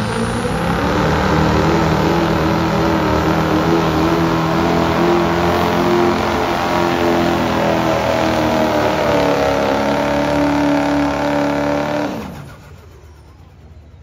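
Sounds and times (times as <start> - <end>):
diesel truck engine under heavy load: 0.0 - 14.0.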